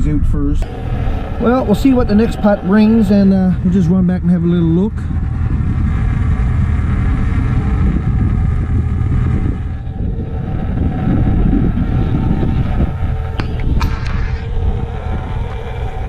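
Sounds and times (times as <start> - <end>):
boat engine rumbling: 0.0 - 16.0
wind: 0.0 - 16.0
water noise: 0.6 - 16.0.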